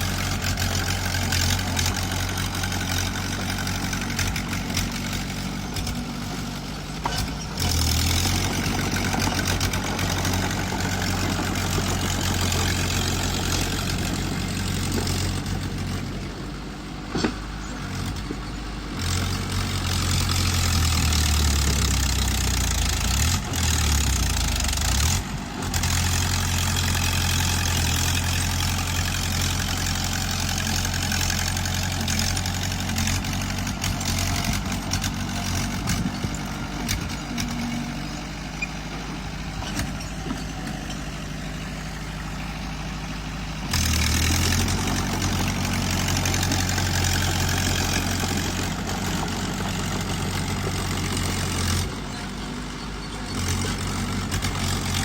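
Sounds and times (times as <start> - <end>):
bulldozer diesel engine working: 0.0 - 55.0.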